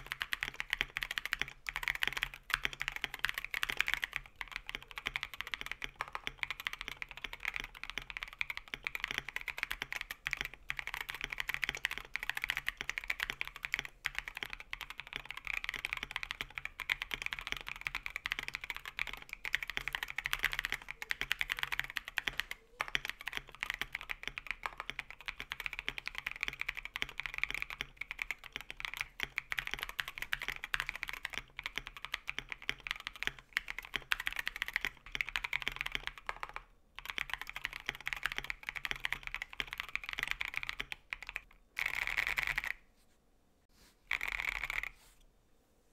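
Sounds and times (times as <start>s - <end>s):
mechanical keyboard typing: 0.0s - 42.8s, 44.1s - 45.0s.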